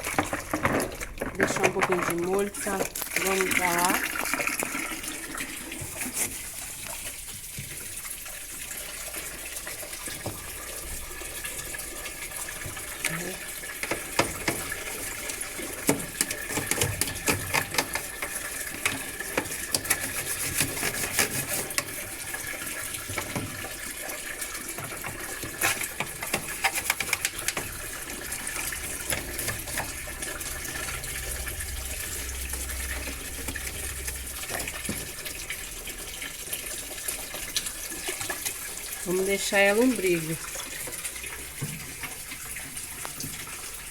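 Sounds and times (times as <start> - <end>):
water running from a tap: 0.0 - 43.9.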